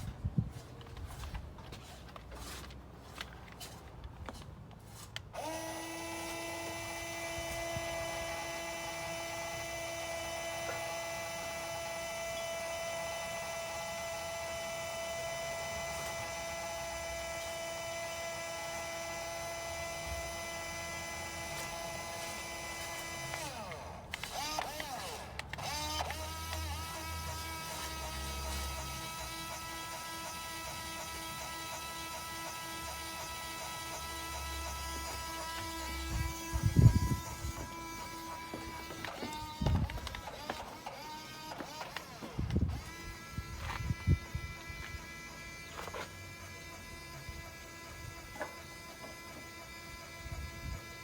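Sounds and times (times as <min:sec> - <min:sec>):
electric gear motor whining: 0:05.3 - 0:51.0.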